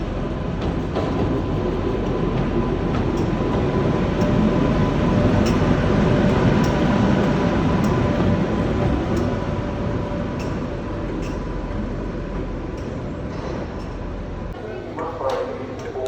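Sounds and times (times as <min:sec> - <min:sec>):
electric locomotive mechanical drone: 0:00.0 - 0:16.0.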